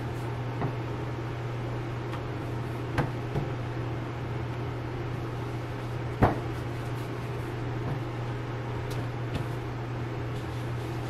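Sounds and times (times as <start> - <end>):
low kitchen hum: 0.0 - 11.0
rolling pin working dough: 0.0 - 11.0.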